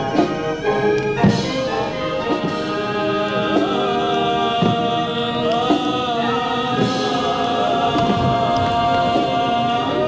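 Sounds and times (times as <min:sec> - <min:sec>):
brass playing sustained chords: 0:00.0 - 0:10.0.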